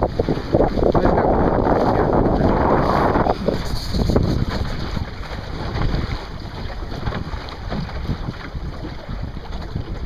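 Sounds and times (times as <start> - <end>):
water splashing along hull: 0.0 - 10.0
wind buffeting microphone: 0.0 - 10.0.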